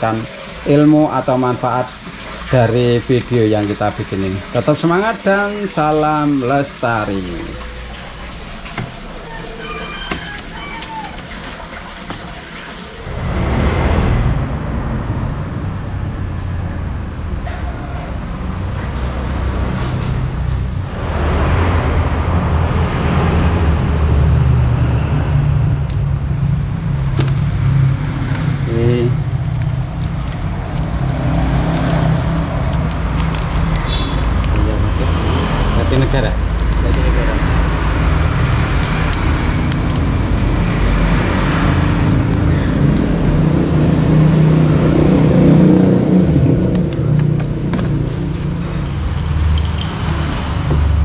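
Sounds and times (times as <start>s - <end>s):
traffic engines rumbling: 0.0s - 51.0s.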